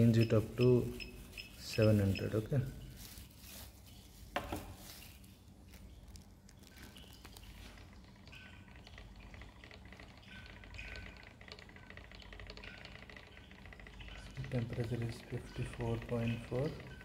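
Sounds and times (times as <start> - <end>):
magnetic stirrer humming: 0.0 - 17.0
stir bar ticking and pattering: 0.0 - 17.0.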